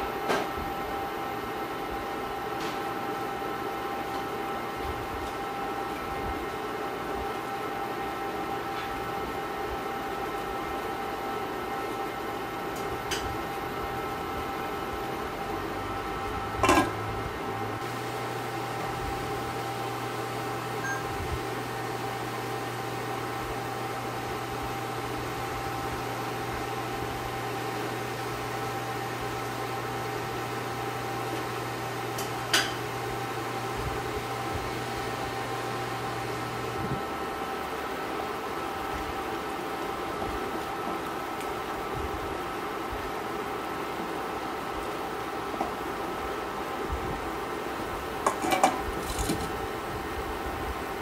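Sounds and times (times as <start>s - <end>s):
cooktop fan hum: 0.0s - 51.0s.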